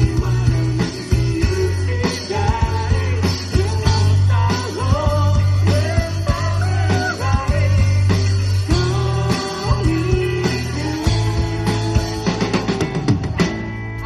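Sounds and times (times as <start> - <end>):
live band playing pop-rock: 0.0 - 14.0.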